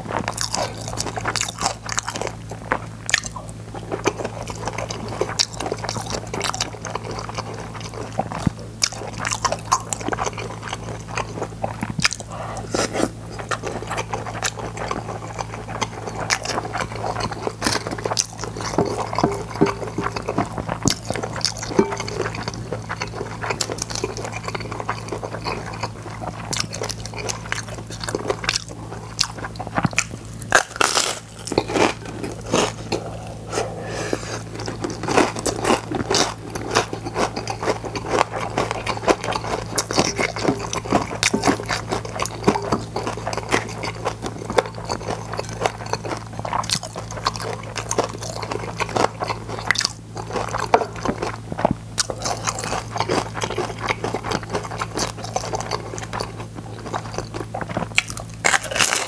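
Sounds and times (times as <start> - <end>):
crunching and chewing: 0.0 - 59.0
steady low hum: 0.0 - 59.0.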